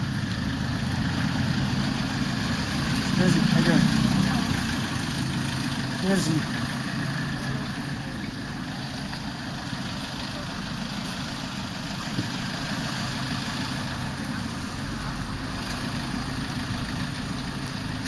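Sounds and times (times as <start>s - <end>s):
busy street traffic: 0.0s - 18.0s.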